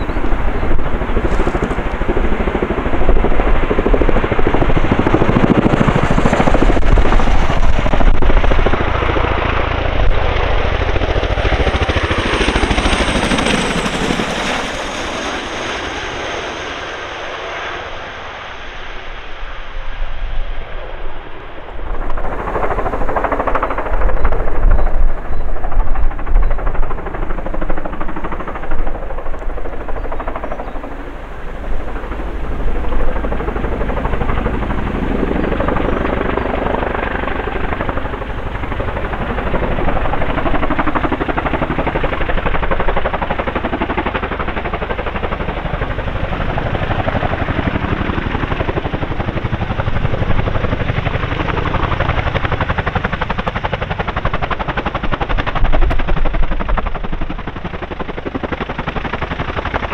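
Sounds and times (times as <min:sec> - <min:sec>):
helicopter rotor chop: 0:00.0 - 0:59.9.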